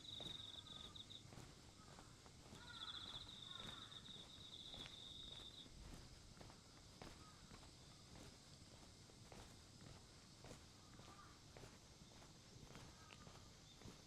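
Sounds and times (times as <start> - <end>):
soft footsteps: 0.1 - 14.0.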